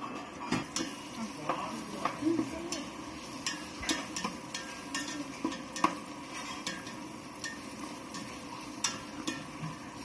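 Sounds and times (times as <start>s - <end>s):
metal spatula scraping pot: 0.0s - 10.0s
vegetables sizzling in oil: 0.0s - 10.0s.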